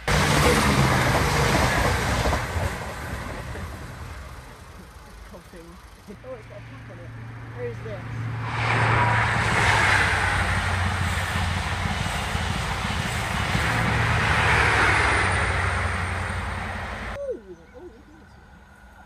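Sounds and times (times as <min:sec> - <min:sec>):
train passing at speed: 0:00.0 - 0:17.2.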